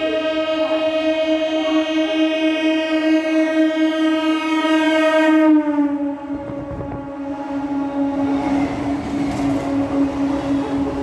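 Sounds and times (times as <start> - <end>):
train horn blast: 0.0 - 11.0.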